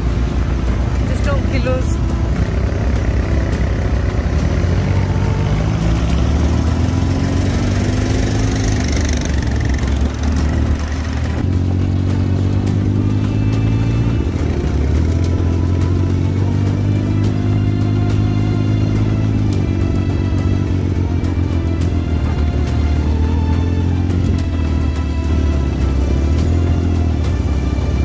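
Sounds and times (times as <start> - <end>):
buggy engine accelerating: 0.0 - 28.0.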